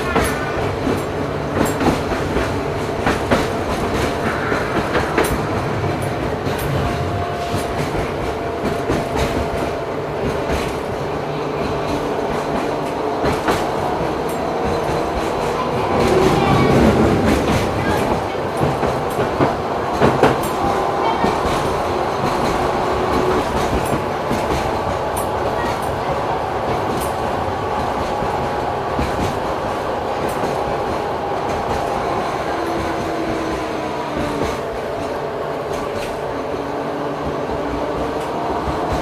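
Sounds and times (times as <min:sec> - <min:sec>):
tram rolling rumble: 0:00.0 - 0:39.0
tram wheels clicking over rails: 0:00.0 - 0:39.0.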